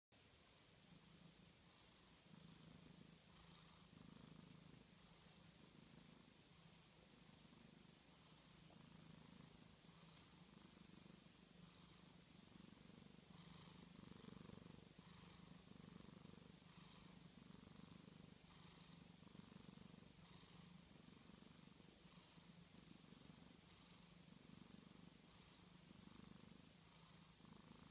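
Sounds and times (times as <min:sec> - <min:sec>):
cat purring: 0:00.2 - 0:27.9.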